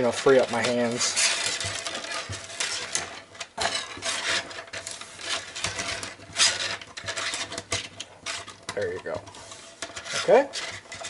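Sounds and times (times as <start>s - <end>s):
steel spring scraping on workbench: 0.0s - 11.0s.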